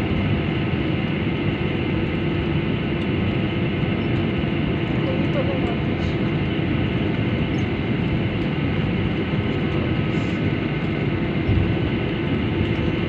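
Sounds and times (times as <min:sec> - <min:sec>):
jet engines idling rumble: 0:00.0 - 0:13.0.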